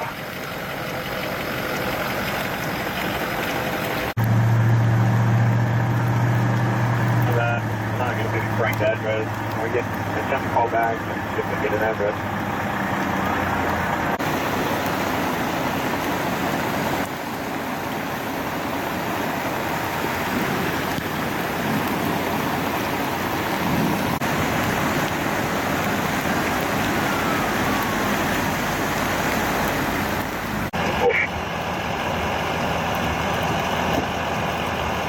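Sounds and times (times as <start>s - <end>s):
flood water rushing: 0.0s - 35.0s
heavy rain: 0.0s - 35.0s.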